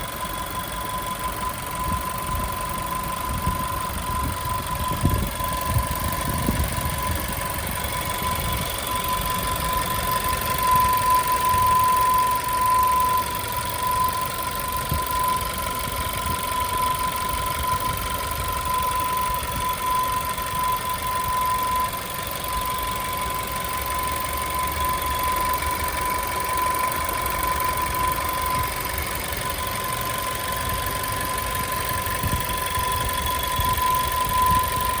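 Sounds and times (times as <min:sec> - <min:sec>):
car engine idling: 0:00.0 - 0:35.0
high whistle: 0:00.0 - 0:35.0.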